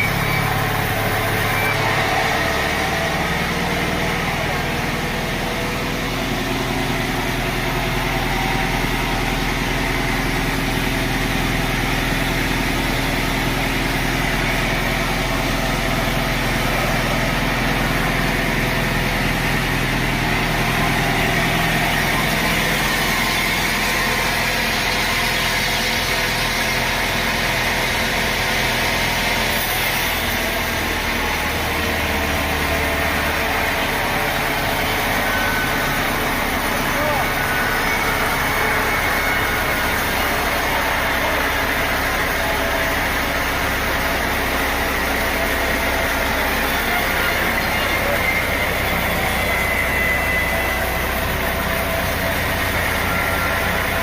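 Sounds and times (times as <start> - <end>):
sawmill machinery droning: 0.0 - 54.0.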